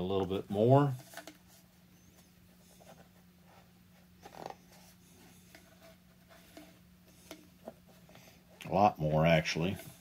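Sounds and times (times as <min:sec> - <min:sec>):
soft handling rubs and clicks: 0:00.4 - 0:10.0.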